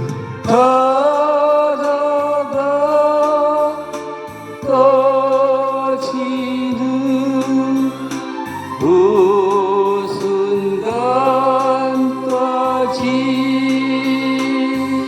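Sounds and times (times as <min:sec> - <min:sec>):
person singing long held notes: 0:00.0 - 0:15.0.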